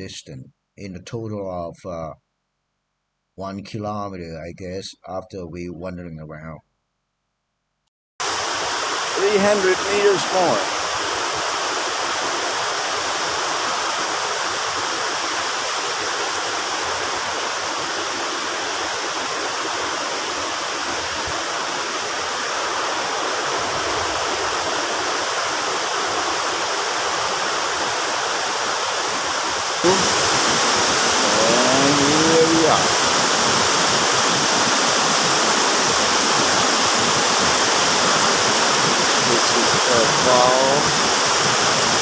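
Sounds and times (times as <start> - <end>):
rushing mountain stream: 8.2 - 42.0
waterfall cascade: 8.2 - 42.0.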